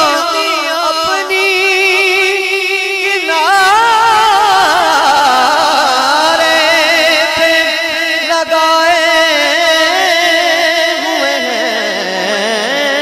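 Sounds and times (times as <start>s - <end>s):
man singing devotional verse: 0.0s - 13.0s.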